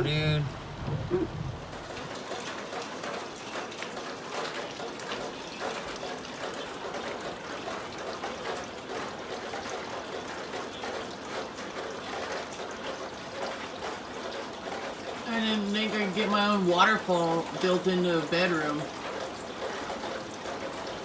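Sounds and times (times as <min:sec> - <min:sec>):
rainwater pouring and splashing: 0:00.0 - 0:21.0.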